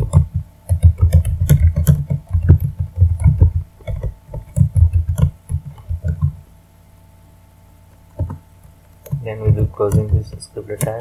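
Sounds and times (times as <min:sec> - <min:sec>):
computer keyboard typing: 0:00.0 - 0:06.4, 0:08.1 - 0:11.0.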